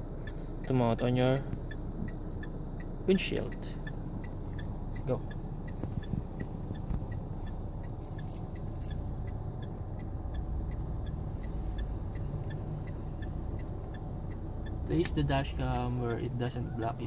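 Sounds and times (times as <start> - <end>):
car rumble from inside cabin: 0.0 - 17.0
faint light ticking: 0.0 - 17.0.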